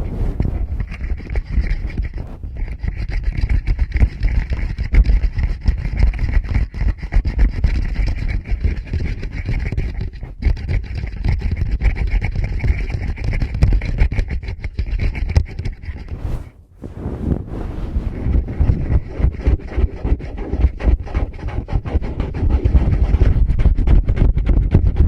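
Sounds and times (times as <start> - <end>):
fingers rubbing on microphones: 0.0 - 25.0.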